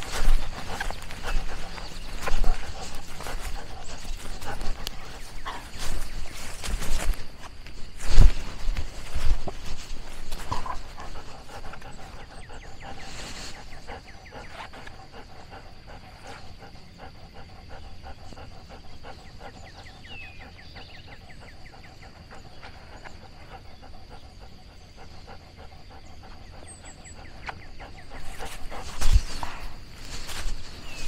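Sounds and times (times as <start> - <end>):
dog panting: 0.0 - 31.0.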